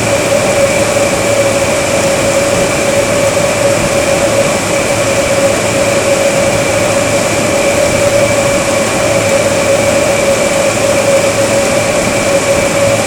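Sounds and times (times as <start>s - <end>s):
blower driving wind and water spray: 0.0s - 13.0s
constant whine: 0.0s - 13.0s.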